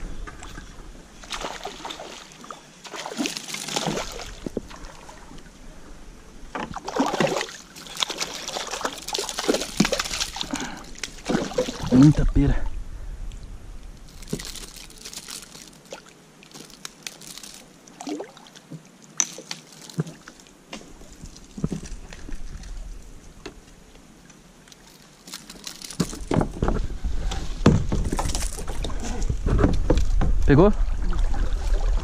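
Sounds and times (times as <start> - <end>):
water sloshing and splashing: 0.2 - 5.5, 6.5 - 12.7, 14.0 - 23.9, 24.6 - 32.0.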